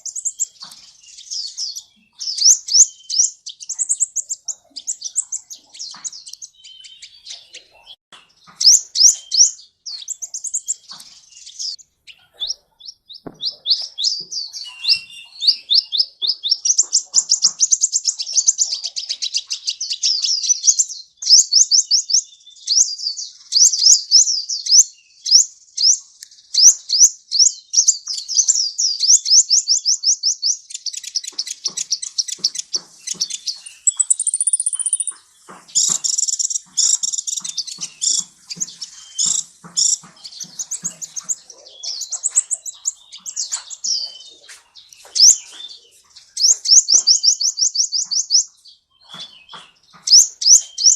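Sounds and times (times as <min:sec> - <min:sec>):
high fast bird song: 0:00.0 - 0:50.9
sunbird singing: 0:00.0 - 0:50.9.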